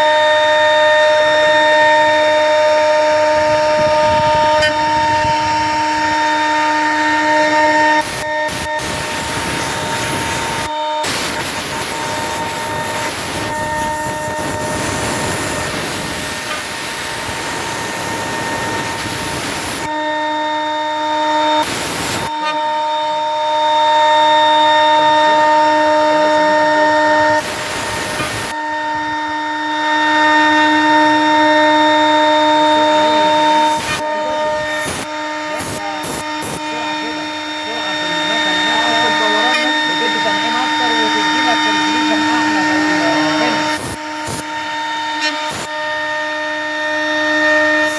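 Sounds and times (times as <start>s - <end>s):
router bit cutting wood: 0.0s - 47.9s
router spindle whine: 0.0s - 47.9s.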